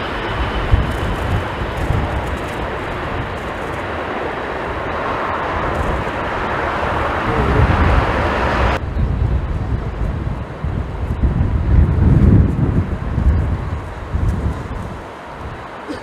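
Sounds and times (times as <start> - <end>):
jet engine roar: 0.0 - 16.0
wind buffeting microphone: 0.0 - 16.0.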